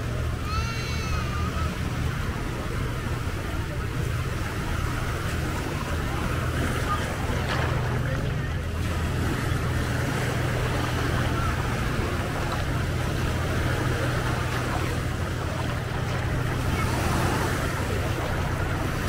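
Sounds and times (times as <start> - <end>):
surf washing on beach: 0.0 - 19.0.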